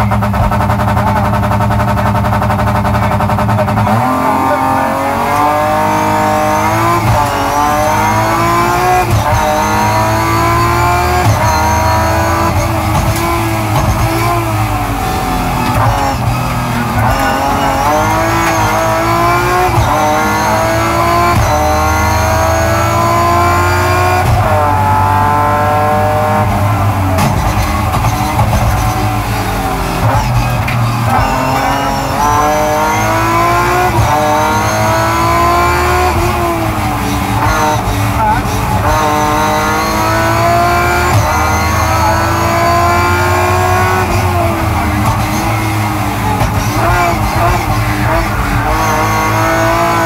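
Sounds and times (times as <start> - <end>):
rally car engine accelerating: 0.0 - 50.0.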